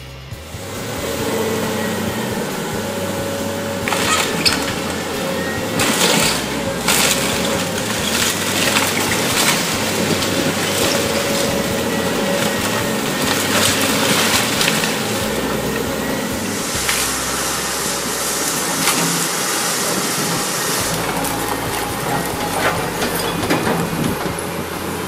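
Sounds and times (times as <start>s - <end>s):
excavator engine droning: 0.0s - 25.0s
boards cracking and crashing: 3.8s - 25.0s.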